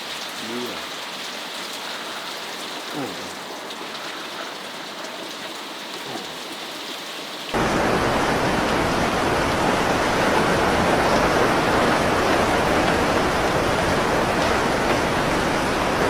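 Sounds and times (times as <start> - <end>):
heavy rushing water: 0.0 - 16.0
rain falling: 0.0 - 16.0.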